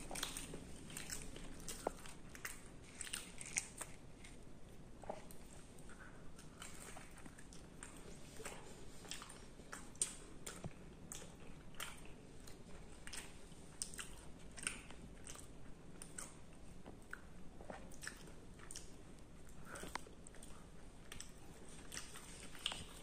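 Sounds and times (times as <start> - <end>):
person chewing with wet clicks: 0.0 - 23.0.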